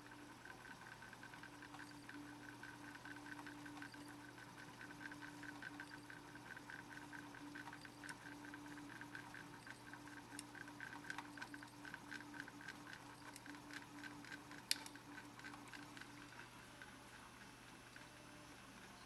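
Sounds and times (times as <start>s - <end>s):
rapid light ticks: 0.0s - 16.4s.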